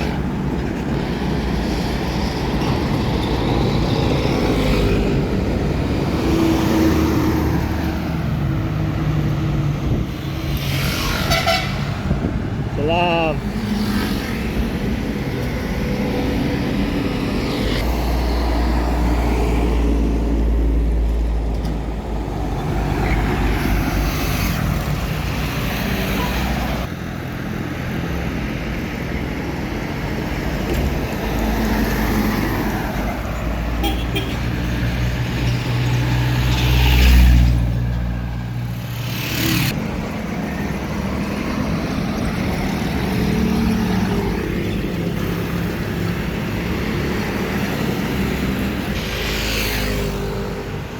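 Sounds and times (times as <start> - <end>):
trucks and cars passing: 0.0 - 50.9.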